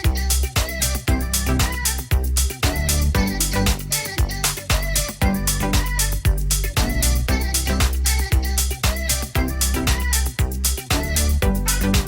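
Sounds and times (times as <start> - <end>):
dance-pop music: 0.0 - 12.0.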